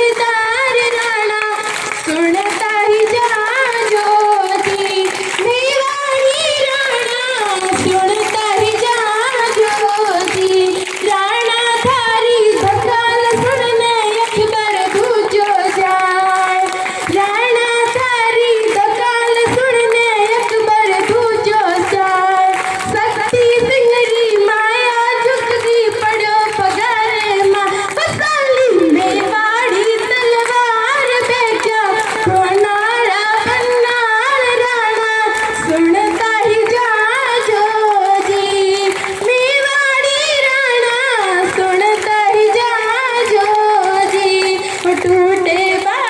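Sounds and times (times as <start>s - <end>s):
young woman singing unaccompanied: 0.0s - 46.0s.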